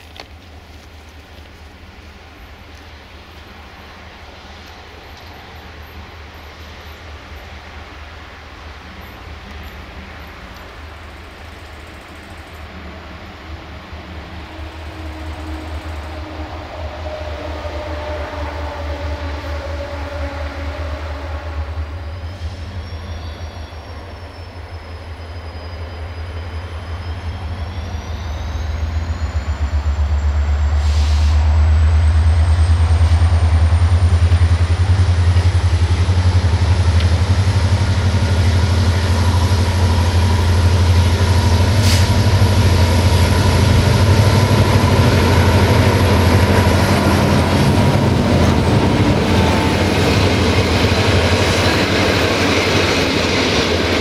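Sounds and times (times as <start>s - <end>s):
diesel locomotive engine drone: 0.0s - 54.0s
train coaches rolling by: 0.0s - 54.0s.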